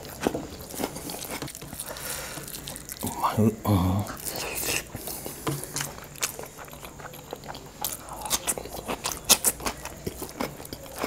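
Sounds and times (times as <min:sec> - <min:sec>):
man chewing food: 0:00.0 - 0:11.0.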